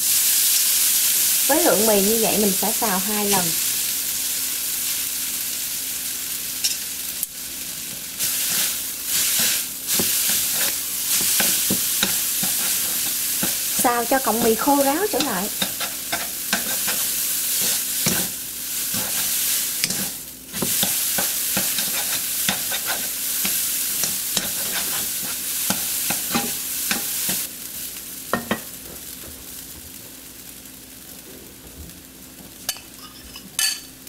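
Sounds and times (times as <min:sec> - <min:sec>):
noodles sizzling in oil: 0:00.0 - 0:34.0.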